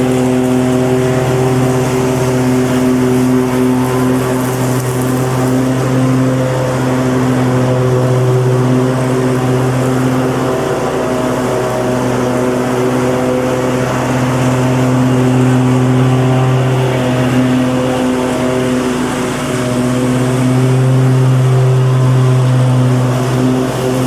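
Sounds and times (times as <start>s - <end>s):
lawn mower running: 0.0s - 24.0s.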